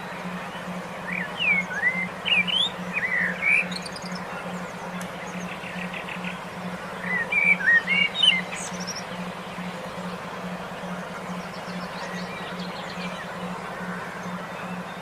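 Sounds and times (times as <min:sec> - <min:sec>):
pulsing low tone: 0:00.0 - 0:15.0
songbird warbling: 0:00.4 - 0:15.0.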